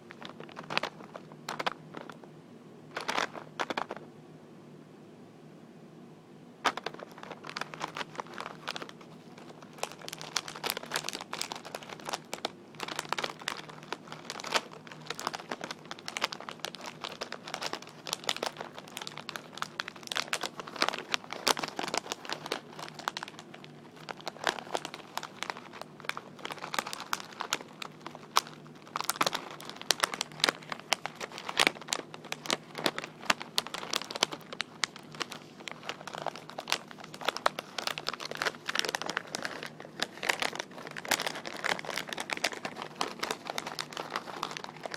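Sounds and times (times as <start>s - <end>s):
wrapping crinkling: 0.0s - 2.2s, 2.9s - 4.0s, 6.6s - 44.9s.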